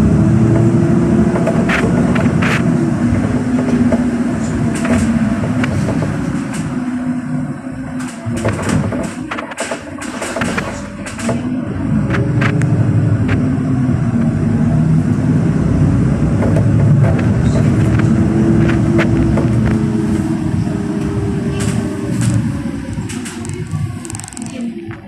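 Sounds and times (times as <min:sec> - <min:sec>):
bus engine accelerating: 0:00.0 - 0:25.0.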